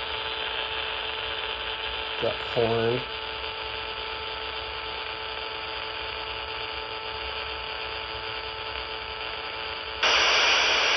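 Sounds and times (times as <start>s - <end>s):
receiver hiss: 0.0s - 10.9s.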